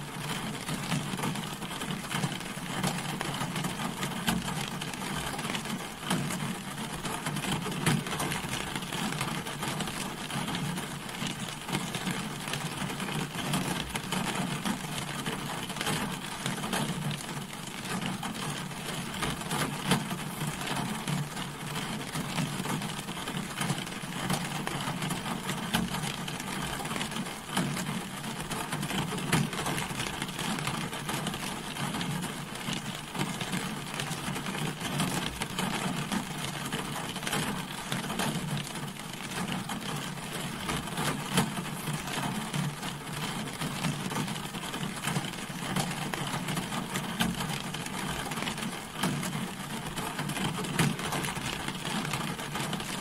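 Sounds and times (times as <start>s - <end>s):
rain pattering on a car: 0.0s - 53.0s.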